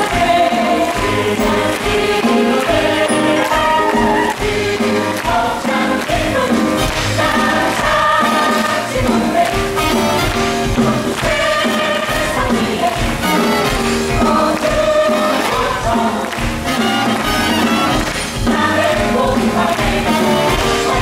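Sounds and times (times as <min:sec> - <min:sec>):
voices singing together: 0:00.0 - 0:21.0
instrumental backing: 0:00.4 - 0:21.0.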